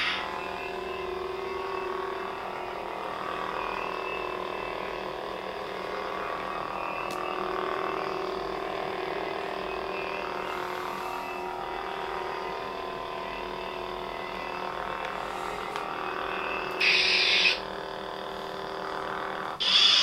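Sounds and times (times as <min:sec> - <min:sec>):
toy lightsaber electronic hum: 0:00.0 - 0:20.0.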